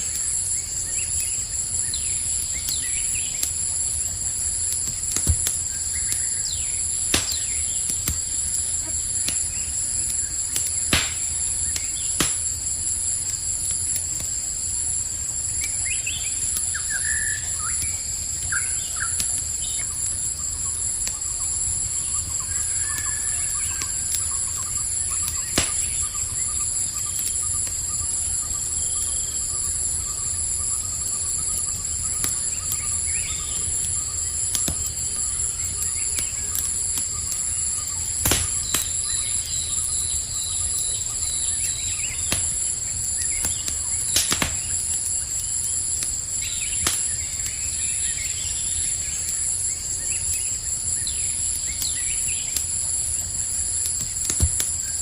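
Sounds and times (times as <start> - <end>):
campfire crackling pops: 0.0 - 55.0
crickets trilling: 0.0 - 55.0.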